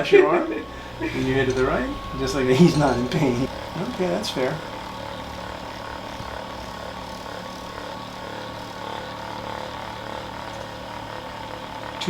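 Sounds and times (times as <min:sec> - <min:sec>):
massager motor hum: 0:00.0 - 0:12.0.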